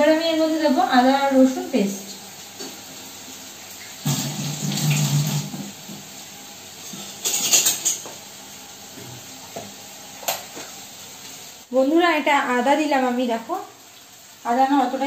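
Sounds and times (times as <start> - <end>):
food frying in a wok: 0.0 - 15.0.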